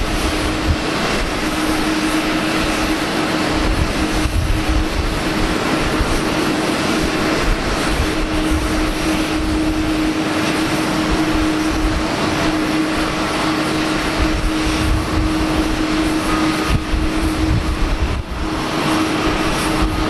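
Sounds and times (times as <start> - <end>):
jet engines at low power: 0.0 - 20.0.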